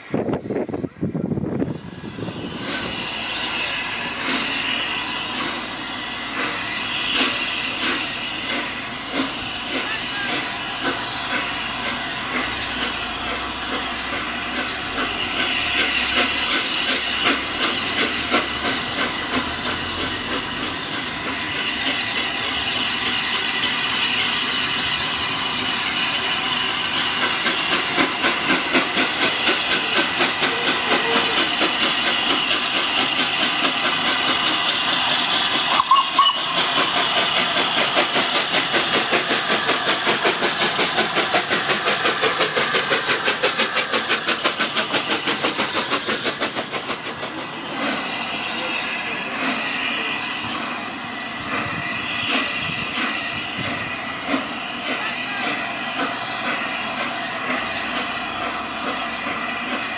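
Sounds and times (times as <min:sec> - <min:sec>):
steam hissing: 0:00.0 - 0:59.9
steam locomotive exhaust beats: 0:00.0 - 0:59.9.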